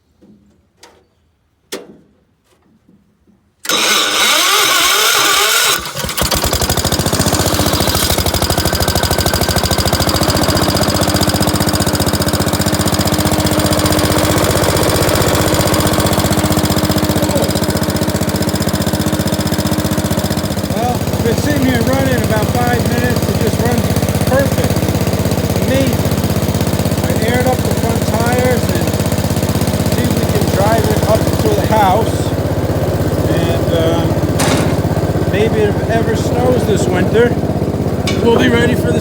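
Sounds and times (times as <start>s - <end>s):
tractor engine cranking and running: 3.6s - 39.0s.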